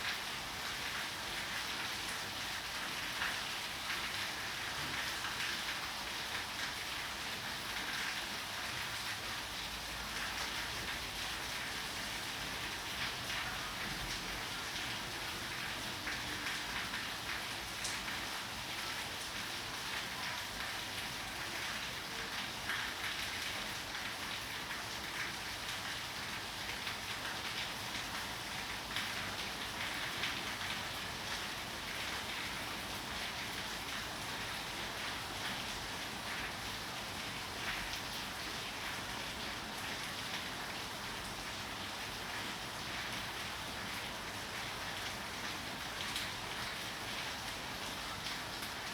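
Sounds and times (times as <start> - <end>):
steady rain patter: 0.0 - 48.9.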